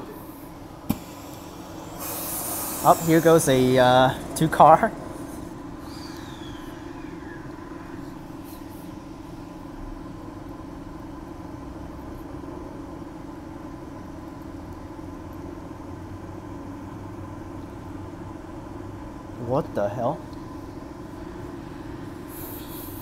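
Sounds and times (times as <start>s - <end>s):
electric train hum: 0.0s - 19.4s.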